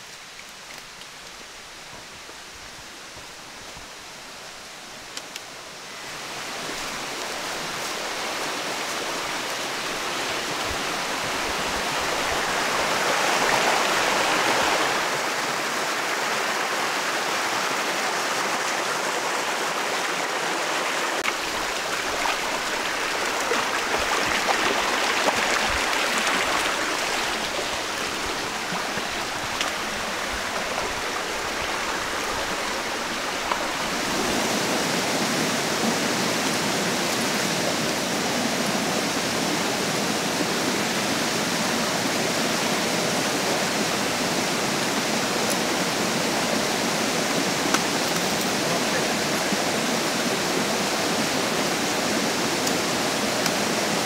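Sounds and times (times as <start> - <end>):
stream splashing over rocks: 6.0 - 54.0.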